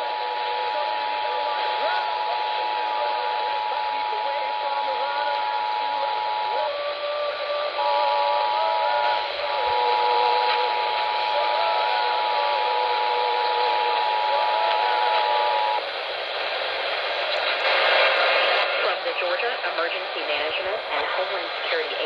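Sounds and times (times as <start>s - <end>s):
radio hiss: 0.0s - 22.0s.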